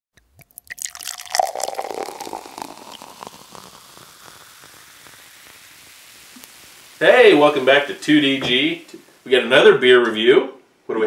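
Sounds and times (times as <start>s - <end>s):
beer pouring into a glass: 0.2s - 9.1s
foam fizzing and crackling: 0.2s - 10.0s.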